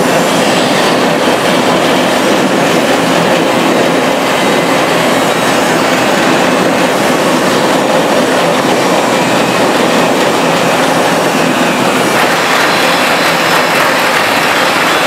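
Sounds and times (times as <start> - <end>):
rotary drum sieve running: 0.0 - 15.0.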